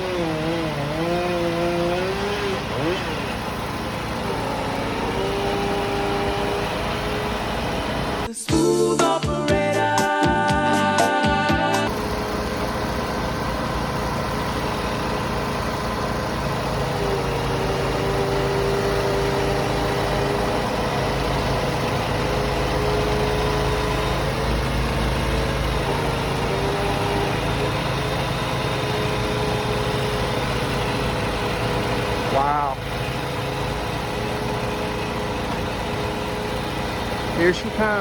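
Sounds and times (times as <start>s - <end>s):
large crane engine running: 0.0s - 8.3s, 11.7s - 38.0s.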